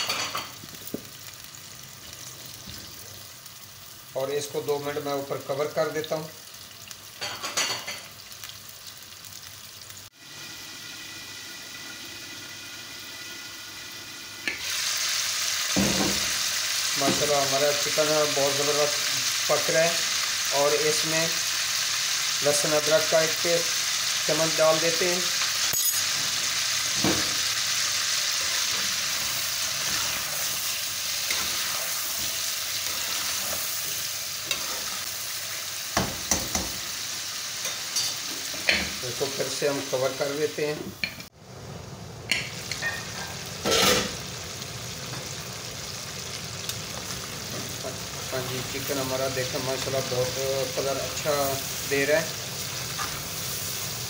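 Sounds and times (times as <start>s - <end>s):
chicken sizzling in hot oil: 0.0s - 54.0s.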